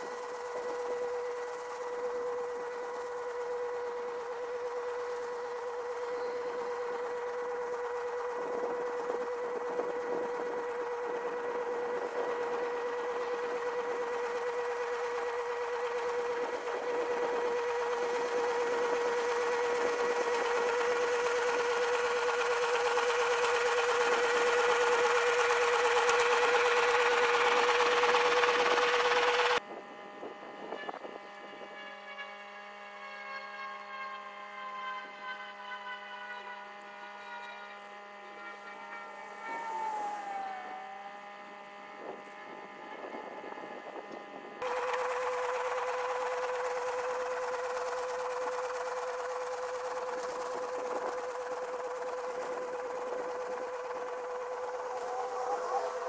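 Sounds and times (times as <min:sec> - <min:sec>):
tractor engine noise: 0:00.0 - 0:32.2, 0:36.7 - 0:56.0
hay baler mechanical whine: 0:00.0 - 0:56.0.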